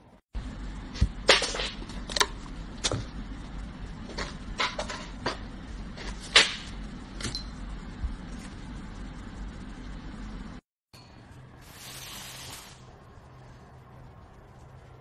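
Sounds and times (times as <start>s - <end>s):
steady low hum: 0.0s - 11.7s, 12.7s - 15.0s.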